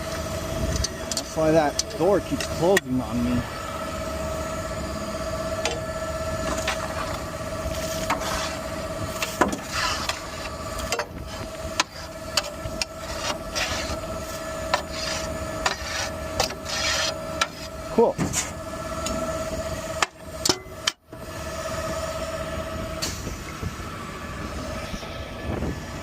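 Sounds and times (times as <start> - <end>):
garbage truck rumble: 0.0 - 26.0.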